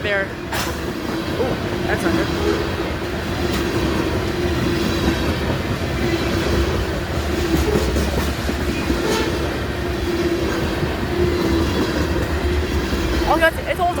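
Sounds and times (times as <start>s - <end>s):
freight train rumble: 0.0s - 14.0s
wheels clacking on rail joints: 0.0s - 14.0s.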